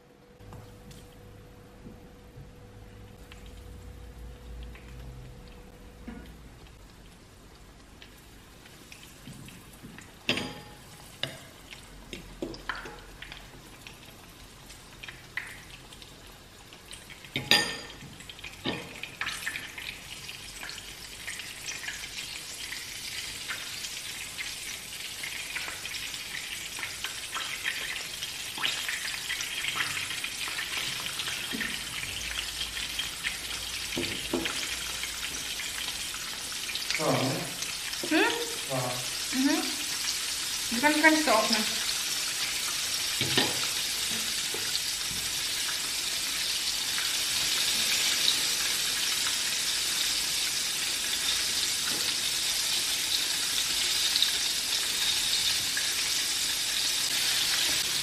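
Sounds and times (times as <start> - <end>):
food sizzling in oil: 3.3 - 58.0.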